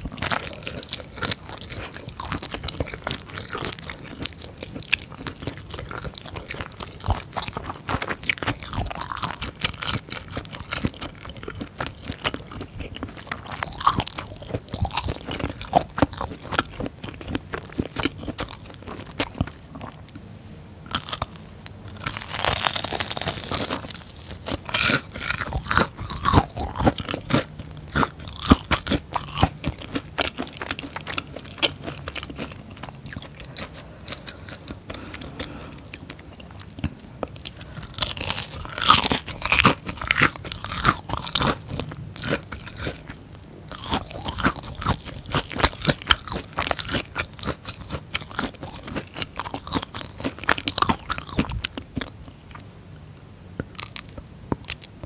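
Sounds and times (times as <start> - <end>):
crunchy chewing: 0.0 - 20.2, 20.9 - 55.0.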